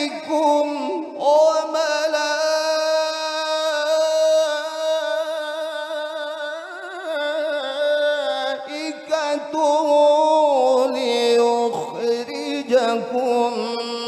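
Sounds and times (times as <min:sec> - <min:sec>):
man chanting melodic recitation: 0:00.0 - 0:14.0.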